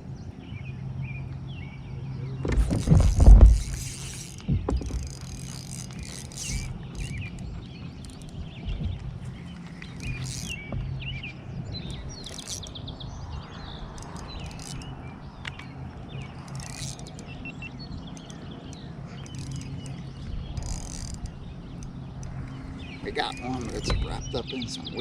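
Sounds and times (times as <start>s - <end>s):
birds chirping and singing: 0.2s - 25.0s.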